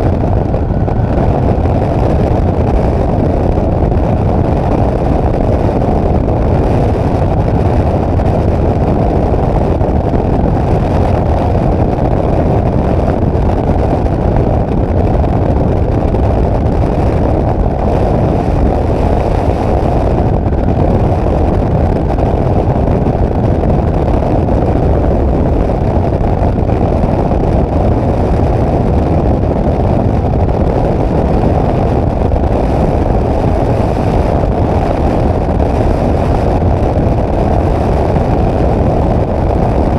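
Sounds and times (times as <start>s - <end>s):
air rushing: 0.0s - 39.9s
muffled microlight engine drone: 0.0s - 39.9s.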